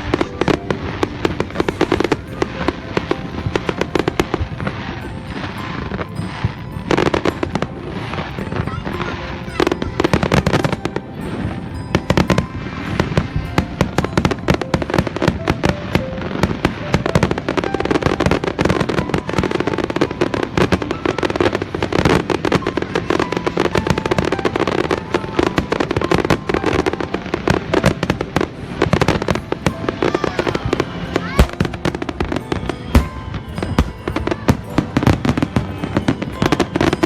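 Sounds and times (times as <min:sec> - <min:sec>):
fireworks and firecrackers exploding: 0:00.0 - 0:37.0.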